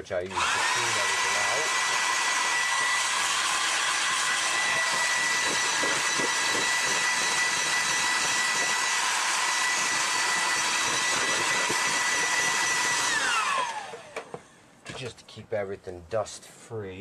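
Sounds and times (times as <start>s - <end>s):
electric duster whining: 0.2s - 14.5s.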